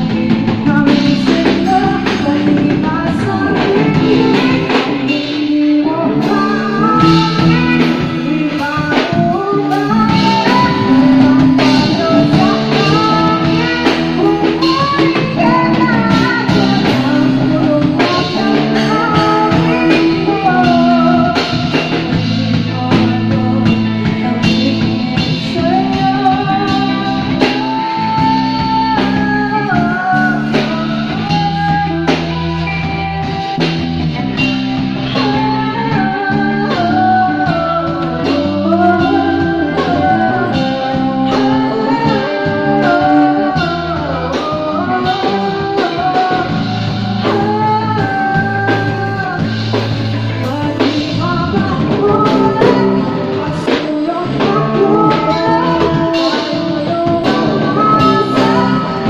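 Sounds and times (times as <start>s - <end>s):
bass guitar: 0.0s - 59.0s
drum kit: 0.0s - 59.0s
electric guitar: 0.0s - 59.0s
woman singing into microphone: 0.0s - 59.0s.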